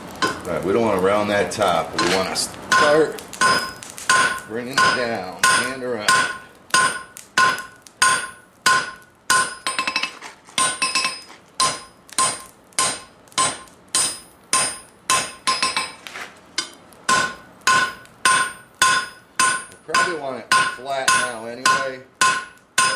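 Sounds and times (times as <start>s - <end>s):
hammer ringing on anvil: 2.0s - 16.0s, 16.6s - 22.9s.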